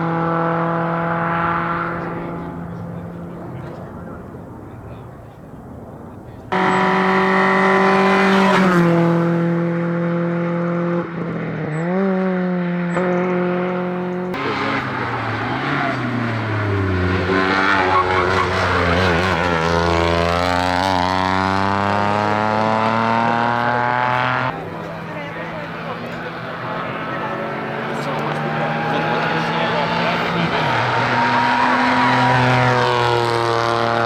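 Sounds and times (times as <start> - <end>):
race car engines at full throttle: 0.0 - 34.0.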